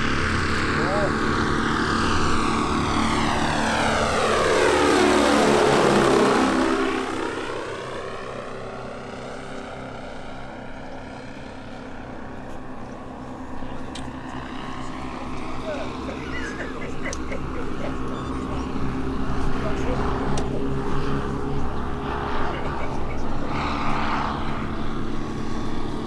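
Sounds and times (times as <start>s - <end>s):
model airplane flying past: 0.0s - 26.0s.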